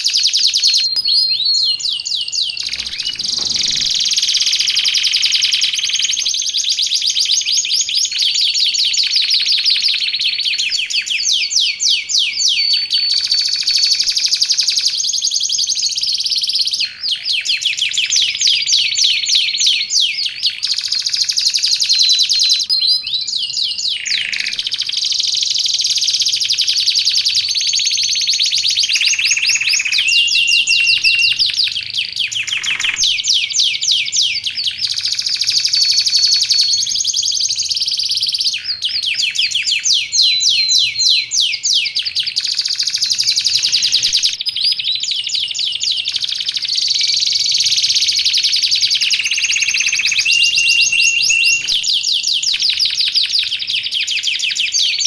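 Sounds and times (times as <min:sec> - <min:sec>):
canary singing trills and chirps: 0:00.0 - 0:55.0.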